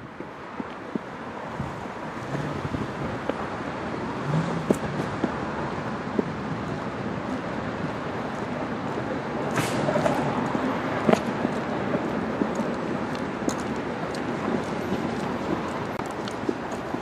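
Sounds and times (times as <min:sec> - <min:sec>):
traffic noise: 0:00.0 - 0:17.0.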